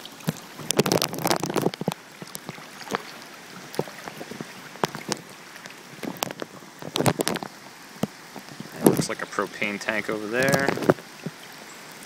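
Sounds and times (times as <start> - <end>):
person wading through water: 0.0 - 11.7.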